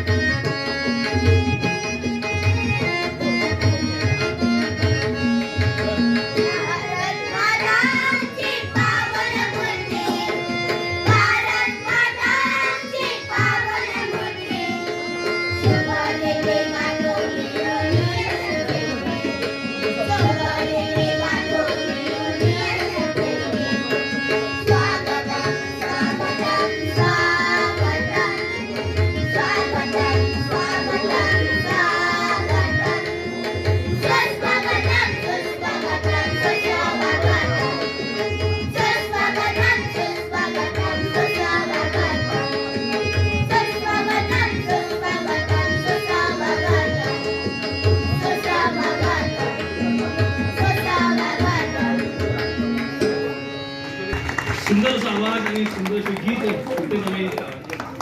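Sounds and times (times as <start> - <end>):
tabla drumming: 0.0 - 58.0
voices singing: 6.2 - 53.0.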